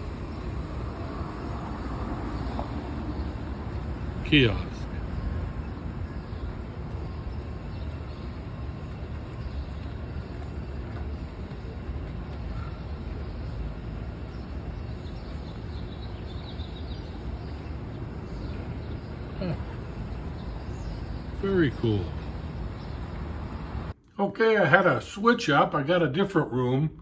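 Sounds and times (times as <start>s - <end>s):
street traffic rumble: 0.0s - 26.8s.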